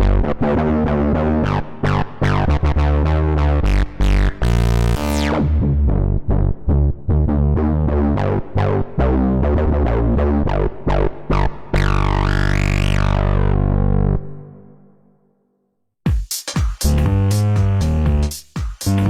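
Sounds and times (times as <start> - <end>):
synth bass notes: 0.0 - 15.2, 16.8 - 19.0.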